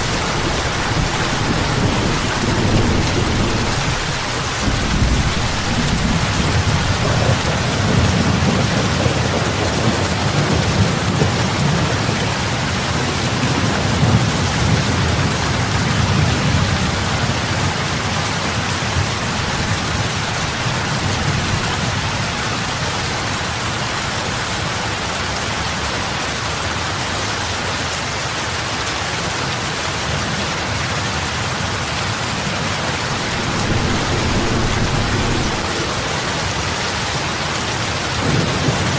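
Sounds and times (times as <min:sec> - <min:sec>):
rain on water: 0:00.0 - 0:38.9.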